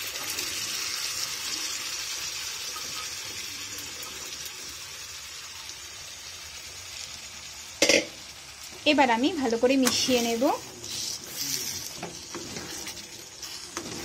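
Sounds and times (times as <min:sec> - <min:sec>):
liquid hissing in hot pan: 0:00.0 - 0:14.0.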